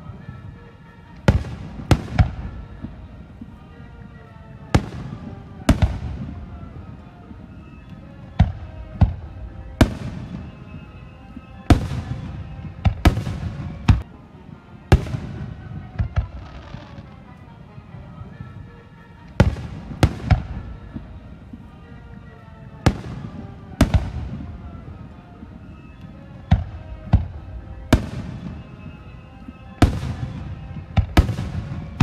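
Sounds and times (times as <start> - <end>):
fireworks bursting: 0.0 - 32.0.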